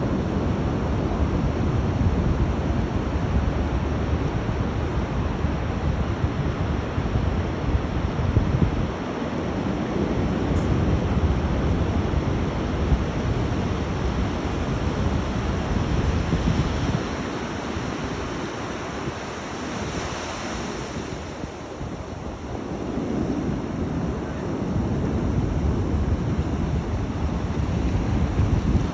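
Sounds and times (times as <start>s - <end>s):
sea surf breaking on beach: 0.0s - 28.9s
wind buffeting microphone: 0.0s - 28.9s.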